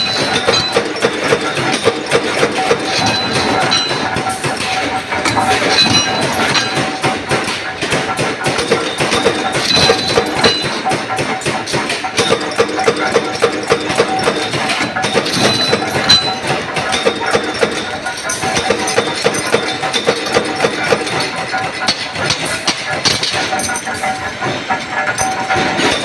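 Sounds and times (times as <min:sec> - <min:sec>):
machine running: 0:00.0 - 0:26.0.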